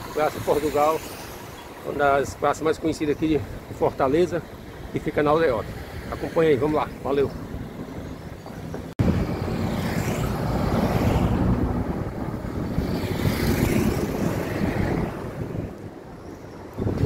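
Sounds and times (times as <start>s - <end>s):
road and traffic rumble: 0.0s - 17.0s
wind rushing over microphone: 0.0s - 17.0s.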